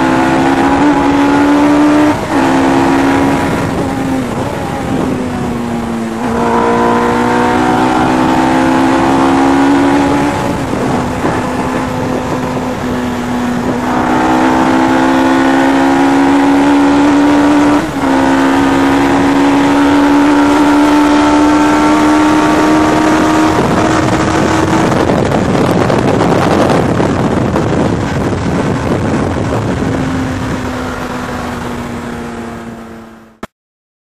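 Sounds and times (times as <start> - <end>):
wind rushing: 0.0 - 33.1
motorcycle engine at high revs: 0.0 - 33.5.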